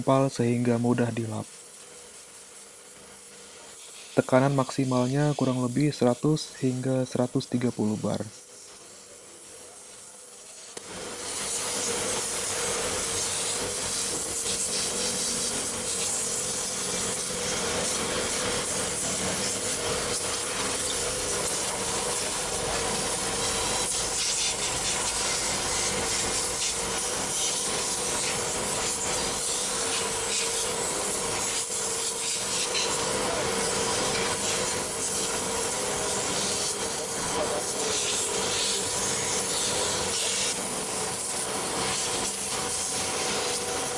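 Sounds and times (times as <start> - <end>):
pump motor hum: 0.0 - 43.9
pressure washer spraying: 0.2 - 7.9, 10.0 - 43.9.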